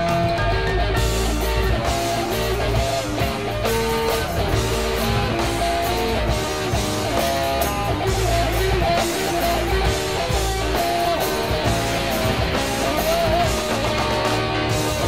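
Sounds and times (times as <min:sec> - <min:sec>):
guitar-led background music: 0:00.0 - 0:15.0.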